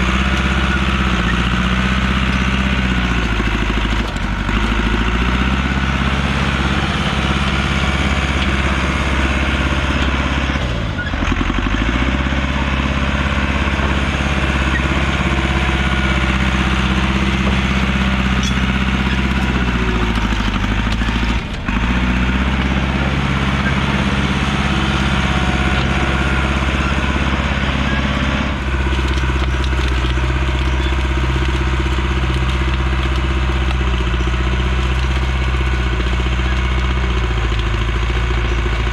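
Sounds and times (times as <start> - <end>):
heavy machine engine under load: 0.0 - 38.9.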